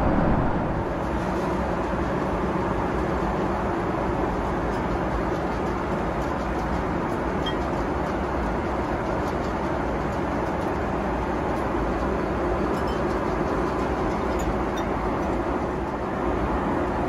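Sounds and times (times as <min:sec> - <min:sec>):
airplane cabin noise: 0:00.0 - 0:17.0.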